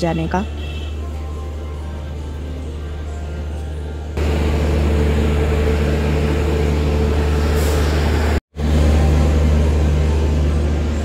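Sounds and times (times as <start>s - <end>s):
train engine droning hum: 1.0s - 11.0s.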